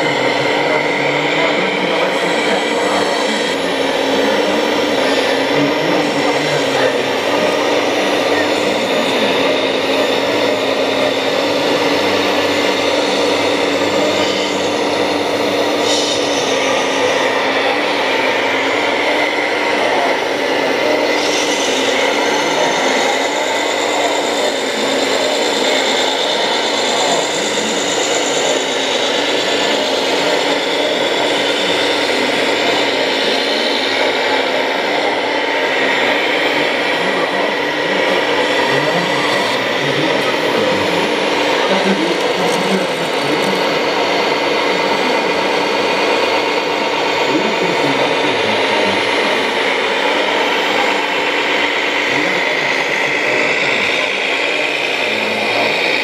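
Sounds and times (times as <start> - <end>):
electric hydraulic pump humming: 0.0 - 56.0.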